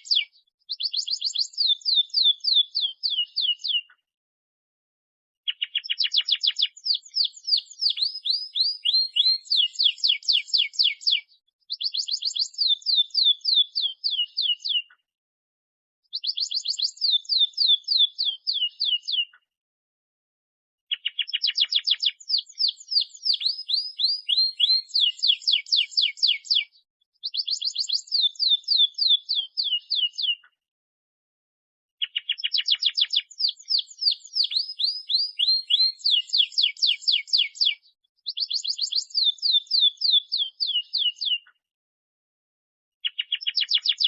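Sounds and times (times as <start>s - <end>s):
canary singing trills: 0.0s - 4.0s, 5.5s - 15.0s, 16.1s - 19.4s, 20.9s - 30.5s, 32.0s - 41.6s, 43.0s - 44.0s.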